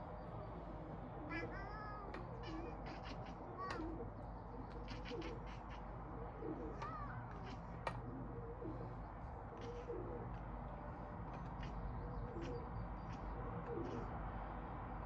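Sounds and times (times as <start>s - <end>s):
bird low cooing calls: 0.0s - 14.6s.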